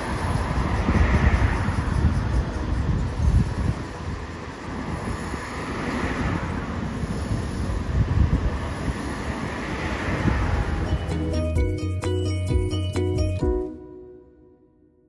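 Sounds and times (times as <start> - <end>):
tram wheels rumbling on rail: 0.0 - 13.4
passing road traffic: 0.0 - 15.0.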